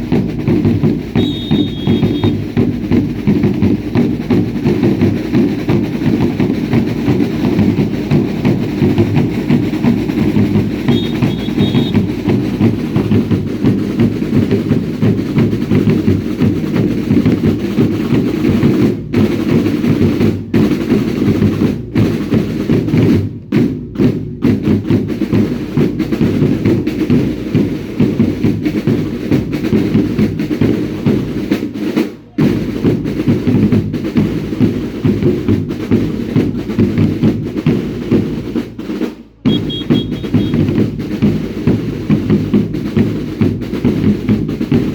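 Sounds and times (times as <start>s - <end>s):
drums beaten in steady rhythm: 0.0s - 44.9s.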